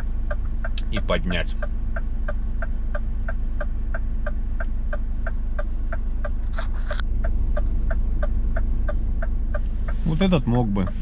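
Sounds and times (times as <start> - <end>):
diesel engine idling: 0.0 - 11.0
even ticking: 0.0 - 11.0.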